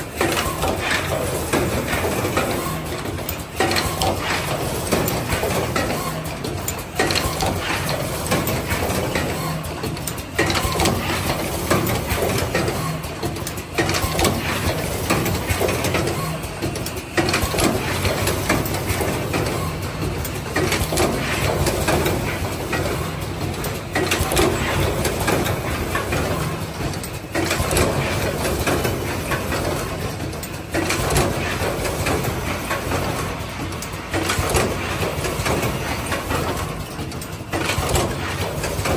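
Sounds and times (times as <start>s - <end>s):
machine clattering and clicking: 0.0s - 38.9s.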